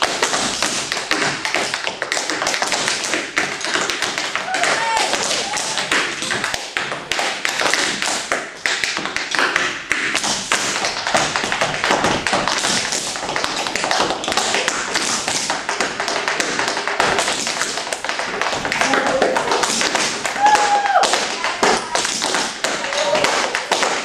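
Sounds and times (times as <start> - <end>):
tap shoes on wooden board: 0.0 - 24.0.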